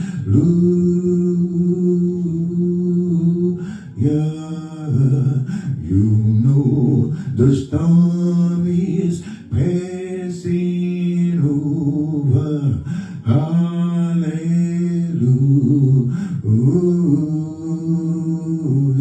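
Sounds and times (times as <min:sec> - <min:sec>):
slow gospel singing: 0:00.0 - 0:19.0.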